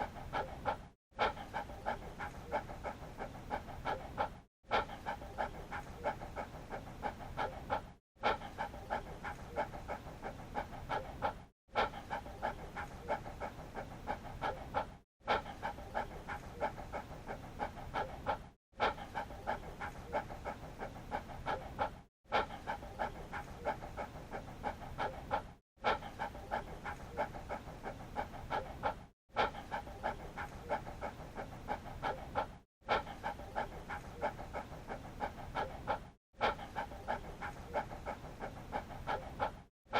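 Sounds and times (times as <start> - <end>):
dog panting: 0.0 - 39.9.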